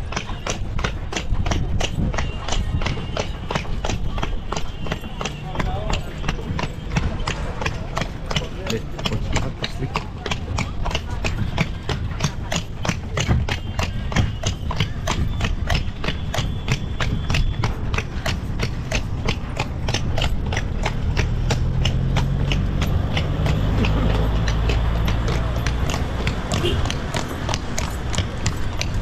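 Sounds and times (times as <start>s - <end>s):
horse hooves clip-clopping on road: 0.0s - 29.0s.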